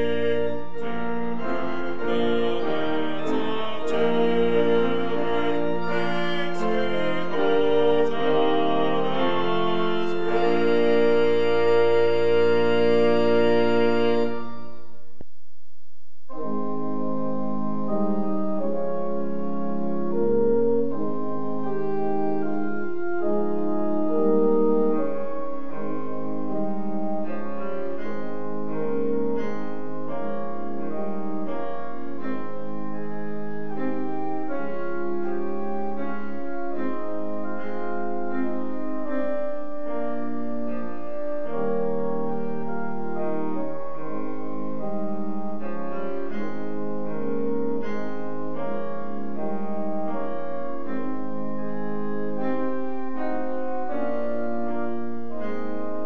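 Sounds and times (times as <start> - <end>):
piano music: 0.0 - 15.0, 16.3 - 56.0.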